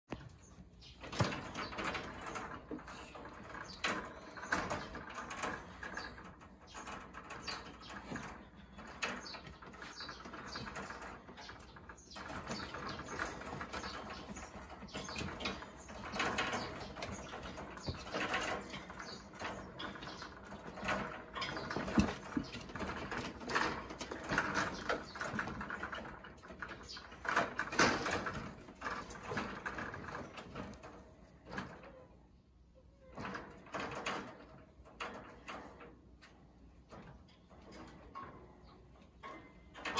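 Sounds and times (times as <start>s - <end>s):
wire cage rattling: 0.1s - 32.3s, 32.9s - 39.9s.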